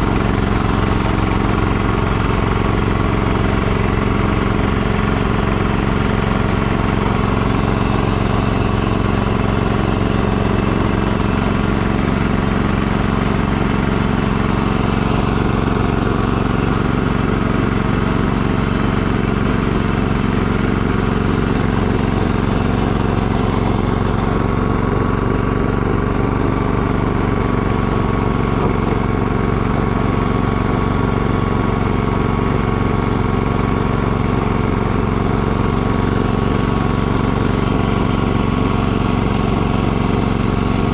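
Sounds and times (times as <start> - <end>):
snowblower engine running: 0.0 - 40.9.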